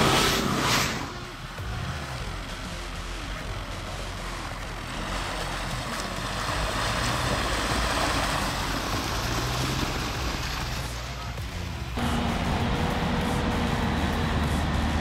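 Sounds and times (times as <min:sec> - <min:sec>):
pickup engine running: 0:00.0 - 0:15.0
tyres churning and splashing mud: 0:00.0 - 0:15.0.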